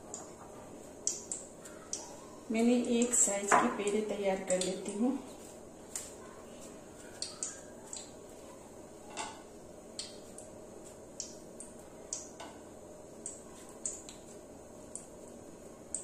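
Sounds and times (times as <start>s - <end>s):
dough ticks and clicks: 0.0s - 8.8s, 9.4s - 16.0s.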